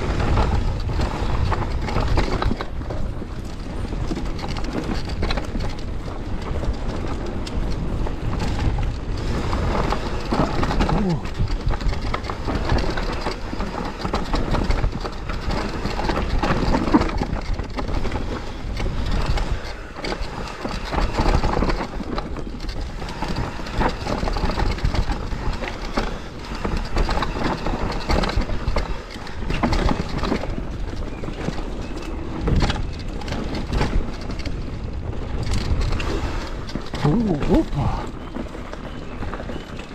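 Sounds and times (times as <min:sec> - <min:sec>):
mountain bike rattling down trail: 0:00.0 - 0:39.9
tyres on dirt and rock: 0:00.0 - 0:39.9.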